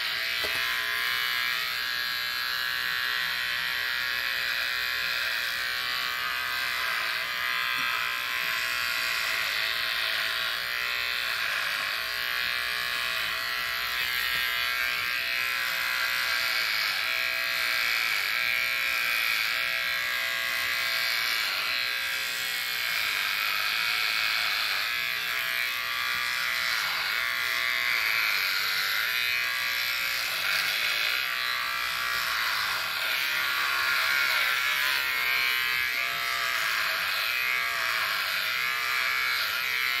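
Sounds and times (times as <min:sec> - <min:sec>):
electric hair clippers buzzing: 0:00.0 - 0:40.0.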